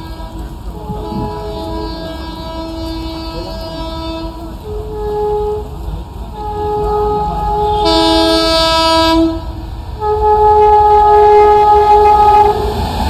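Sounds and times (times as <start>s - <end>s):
train horn blasts: 0.0s - 12.8s
train rumble: 0.0s - 13.0s.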